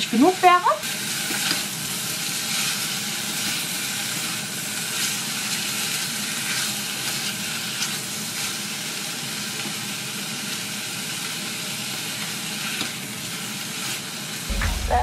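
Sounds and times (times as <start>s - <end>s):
sausages sizzling in pan: 0.0s - 15.0s.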